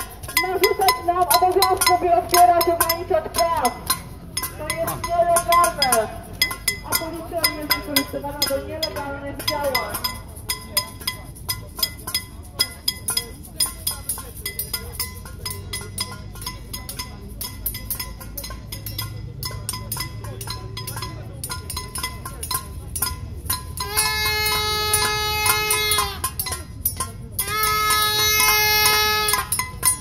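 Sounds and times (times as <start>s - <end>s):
hand bells ringing: 0.0s - 30.0s
metal pots being struck: 0.0s - 30.0s.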